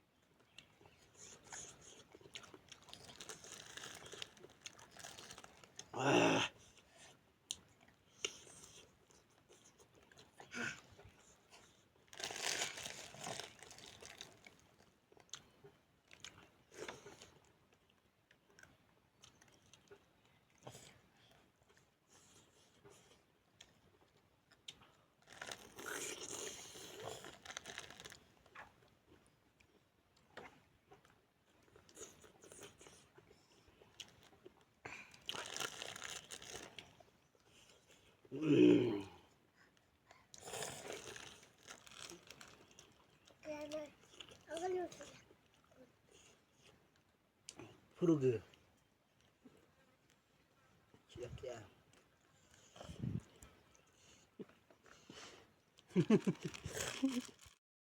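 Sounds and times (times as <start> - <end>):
chewing and crunching food: 0.0 - 57.6.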